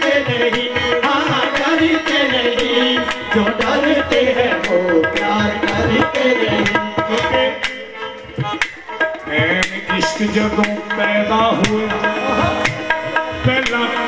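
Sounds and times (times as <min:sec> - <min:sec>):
tabla playing a steady beat: 0:00.0 - 0:14.0.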